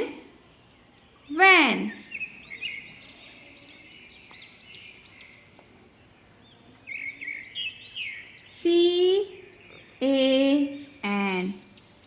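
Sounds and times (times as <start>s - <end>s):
birds chirping faintly: 0.0s - 12.0s
low background noise: 0.0s - 12.0s.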